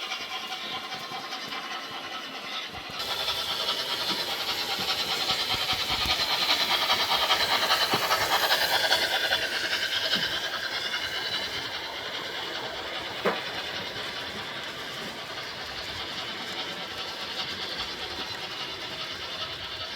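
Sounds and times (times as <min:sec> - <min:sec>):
model train rattling on track: 0:00.0 - 0:19.9.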